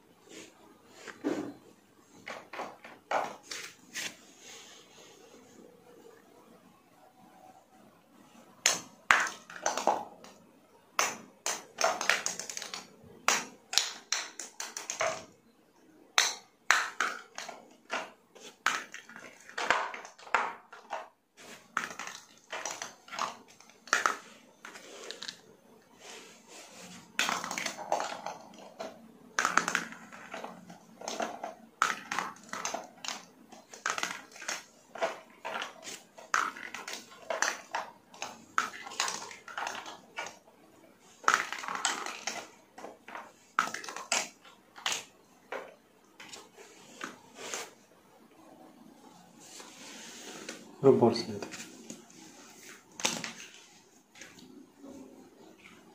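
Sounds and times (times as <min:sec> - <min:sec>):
plastic balls bouncing and clacking: 0:01.1 - 0:03.8, 0:08.2 - 0:49.2, 0:50.3 - 0:55.9.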